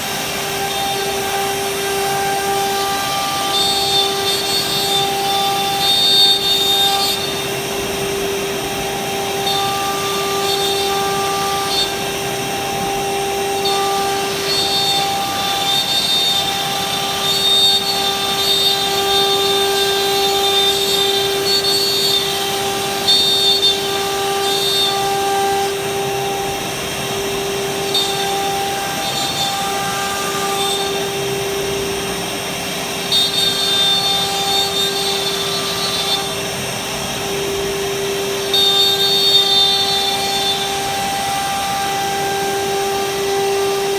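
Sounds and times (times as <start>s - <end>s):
router spindle whine: 0.0s - 43.9s.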